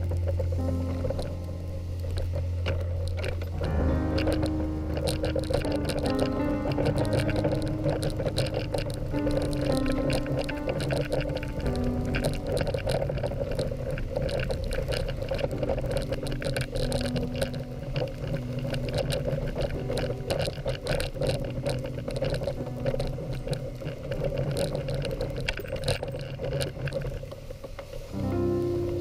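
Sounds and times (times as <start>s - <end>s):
knocks and rattles of sled: 0.0s - 29.0s.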